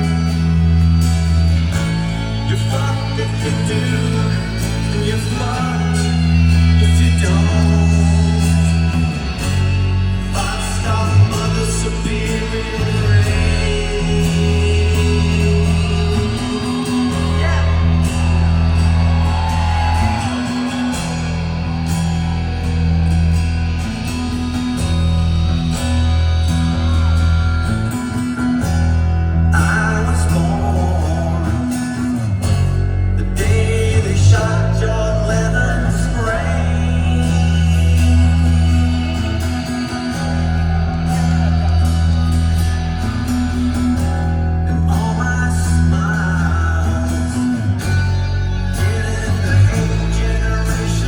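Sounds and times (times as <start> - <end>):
person singing: 0.0 - 51.0
rock band playing live: 0.0 - 51.0.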